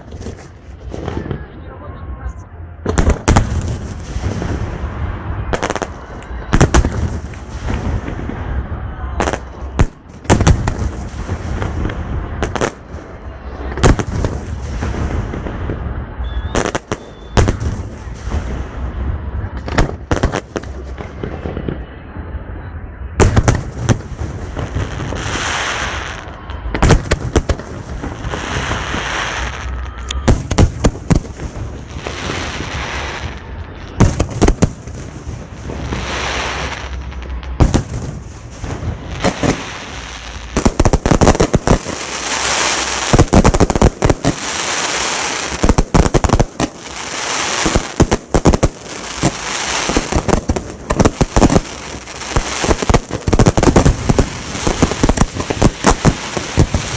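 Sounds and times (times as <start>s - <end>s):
fireworks bangs: 0.0s - 56.9s
fireworks crackling and hissing: 0.0s - 56.9s.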